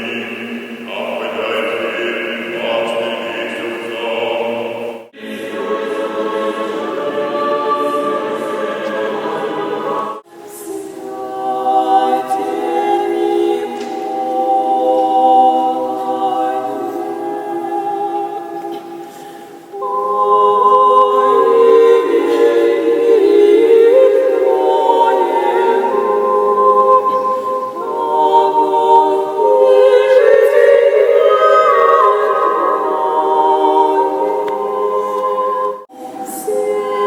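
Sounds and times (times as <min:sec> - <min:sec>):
choir singing unaccompanied chant: 0:00.0 - 0:37.0.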